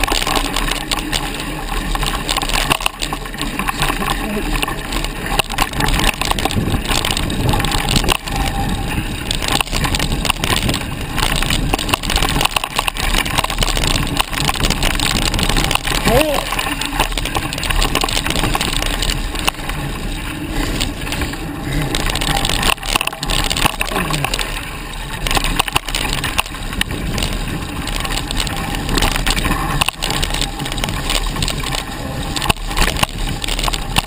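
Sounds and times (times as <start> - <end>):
bike clattering over bumps: 0.0 - 34.0
tyres crunching on dirt: 0.0 - 34.0
wind on microphone: 0.0 - 34.0.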